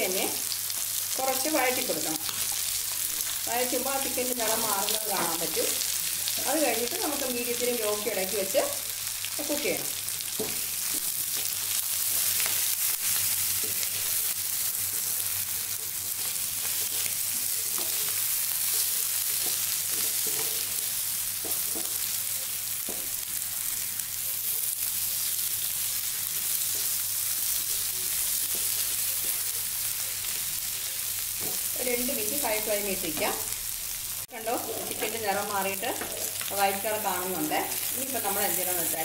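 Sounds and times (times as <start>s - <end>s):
chicken sizzling in hot oil: 0.0s - 39.0s.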